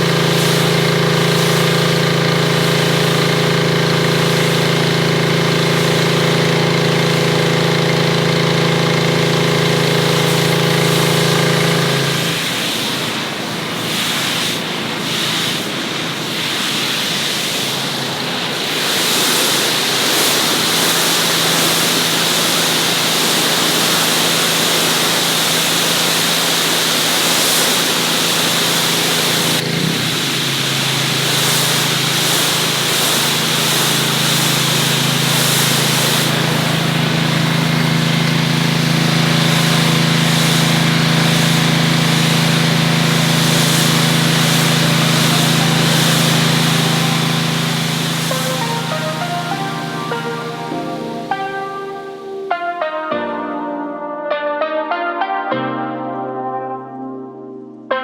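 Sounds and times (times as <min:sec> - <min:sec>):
high-pressure water spray hiss: 0:00.0 - 0:52.6
pressure washer engine hum: 0:00.0 - 0:52.6.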